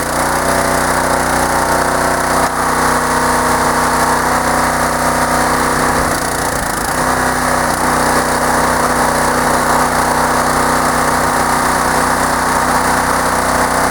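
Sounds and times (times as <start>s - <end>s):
small gasoline engine idling: 0.0s - 13.9s.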